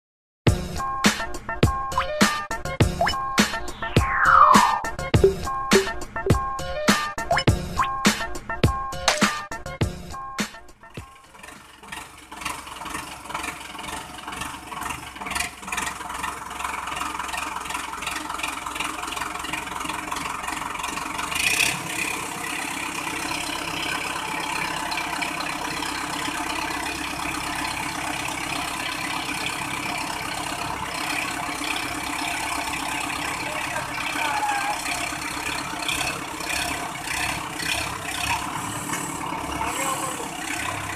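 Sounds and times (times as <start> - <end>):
tractor diesel engine running: 0.5 - 40.9.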